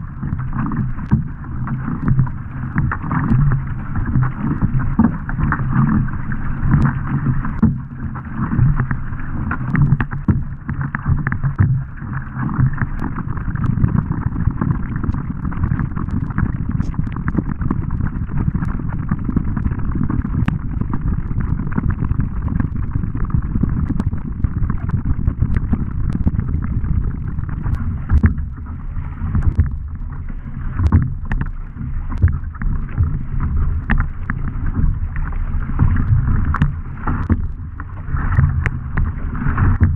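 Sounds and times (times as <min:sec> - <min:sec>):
paddle blades splashing: 0:00.0 - 0:39.9
water washing along hull: 0:00.0 - 0:39.9.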